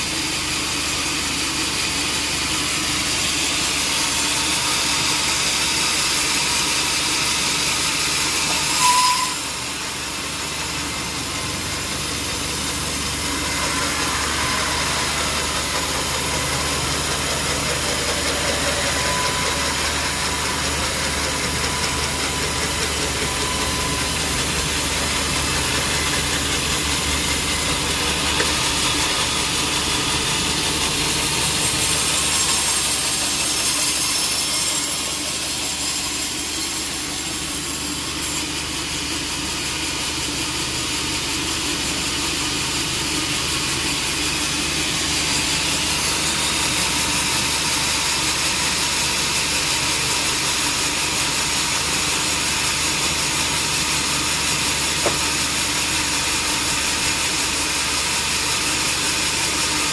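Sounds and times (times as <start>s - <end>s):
sawmill machinery running: 0.0s - 59.9s
loud machine squeal: 1.8s - 39.2s, 40.8s - 59.9s.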